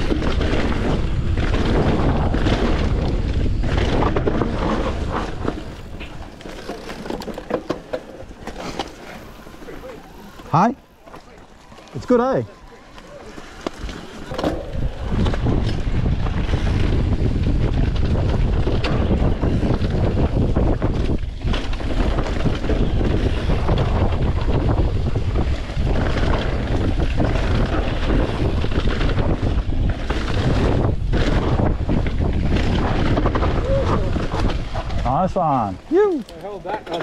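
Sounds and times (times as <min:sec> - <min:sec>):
wind rushing over microphone: 0:00.0 - 0:07.6, 0:13.5 - 0:36.8
bike knocks and rattles: 0:00.0 - 0:09.2, 0:13.3 - 0:37.0
bike tyres rumbling over dirt: 0:00.0 - 0:37.0.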